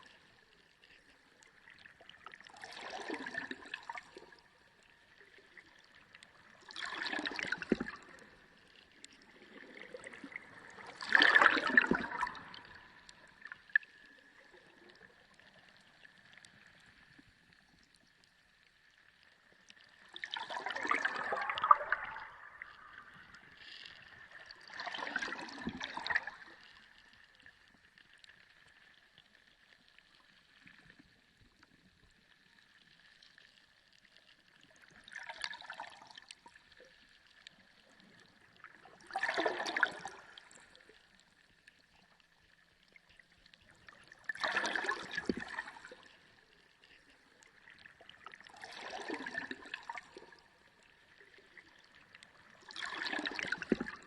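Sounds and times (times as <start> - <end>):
underwater gurgling and rushing: 0.0 - 54.0.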